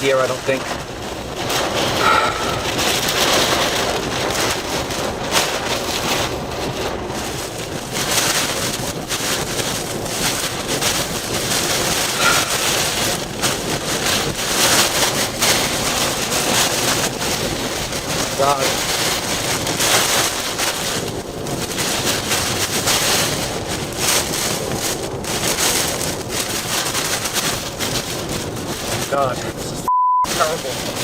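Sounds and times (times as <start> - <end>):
heavy rain: 0.0 - 31.0
hurricane wind: 0.0 - 31.0
wind buffeting microphone: 0.0 - 31.0.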